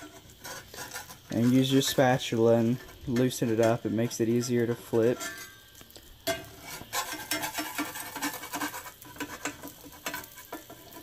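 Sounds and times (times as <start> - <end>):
egg sizzling: 0.0 - 11.0
metal spatula scraping skillet: 0.0 - 11.0.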